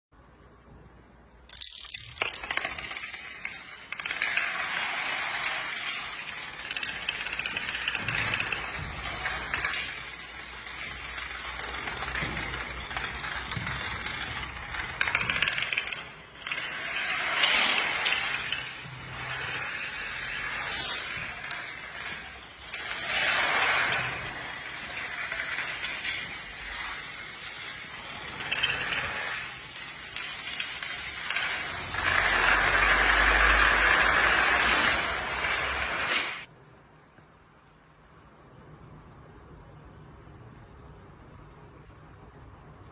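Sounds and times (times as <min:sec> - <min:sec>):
dominoes toppling: 0:01.5 - 0:36.5.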